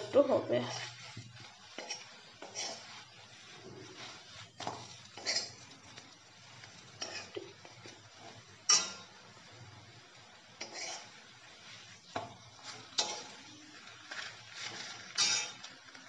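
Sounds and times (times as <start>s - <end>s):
faint sizzling: 0.0s - 16.0s
steel spoon scraping a pan: 0.0s - 16.0s.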